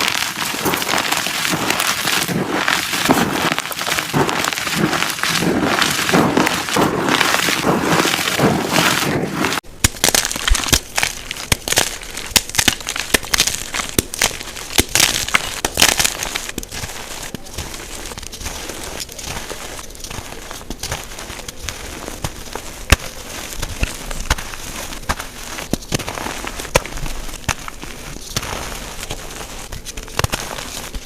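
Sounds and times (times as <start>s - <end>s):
chalk cracking apart: 0.0s - 31.0s
chalk crumbling crunch: 0.0s - 31.0s.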